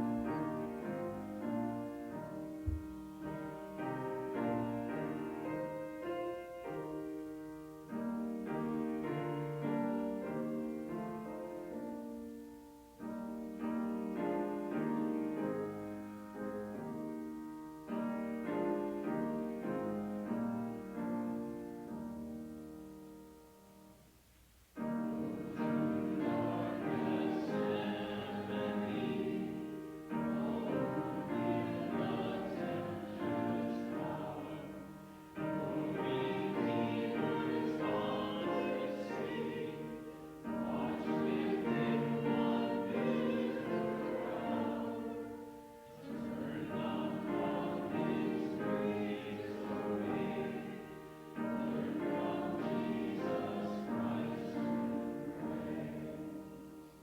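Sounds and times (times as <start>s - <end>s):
congregation singing a hymn: 0.0s - 23.3s, 24.8s - 57.0s
keyboard accompaniment: 0.0s - 24.0s, 24.7s - 57.0s.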